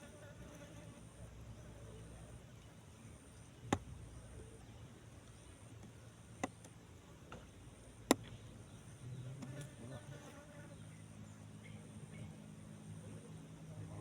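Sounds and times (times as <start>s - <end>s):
faint outdoor background: 0.0s - 14.0s.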